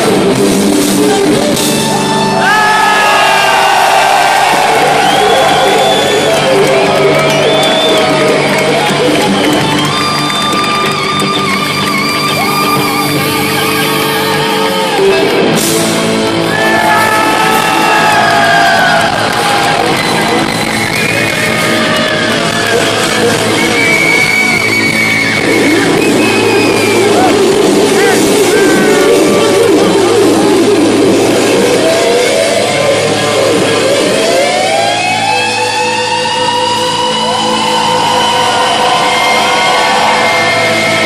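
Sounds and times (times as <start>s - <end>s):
live rock band playing: 0.0s - 41.0s
electric guitar lead bending notes: 4.2s - 41.0s.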